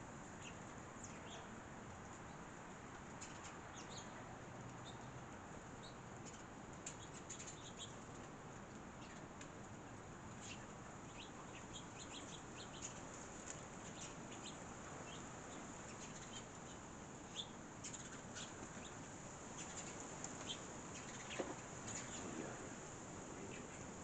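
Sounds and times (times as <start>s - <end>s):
steady background hiss: 0.0s - 24.0s
small birds chirping: 0.2s - 24.0s.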